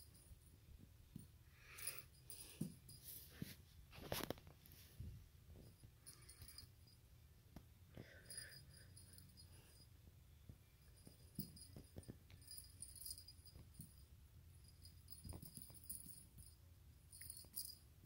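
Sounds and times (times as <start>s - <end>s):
small jingle bell tinkling: 0.0s - 3.3s, 5.5s - 7.2s, 8.0s - 18.0s.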